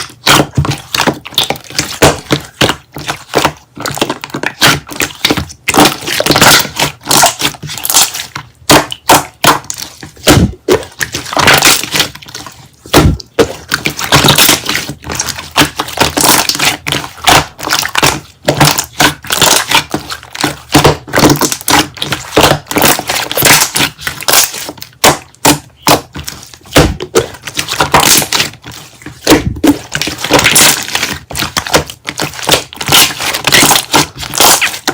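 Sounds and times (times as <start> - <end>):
slime squished by hand: 0.0 - 34.9.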